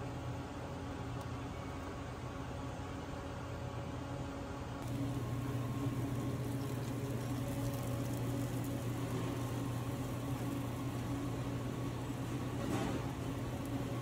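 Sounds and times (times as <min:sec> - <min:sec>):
low electric hum: 0:00.0 - 0:14.0.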